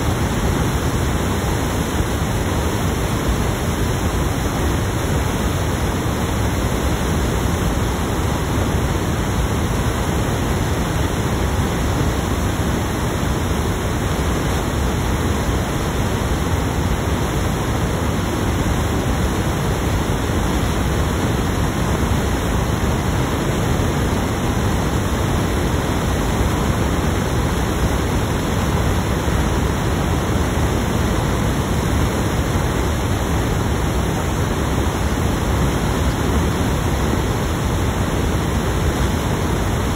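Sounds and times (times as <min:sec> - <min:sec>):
loud recording hiss: 0:00.0 - 0:39.9.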